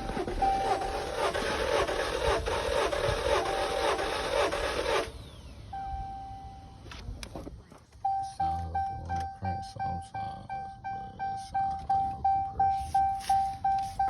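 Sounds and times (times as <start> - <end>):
car engine cranking: 0.0 - 6.0, 6.7 - 14.0.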